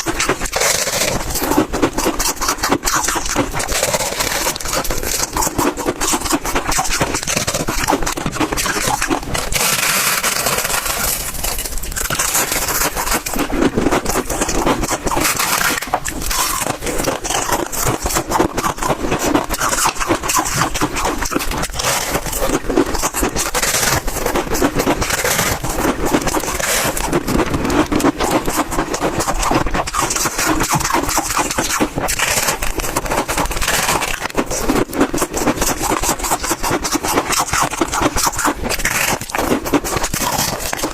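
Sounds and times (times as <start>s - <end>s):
chewing crunchy freezer frost: 0.0s - 40.9s.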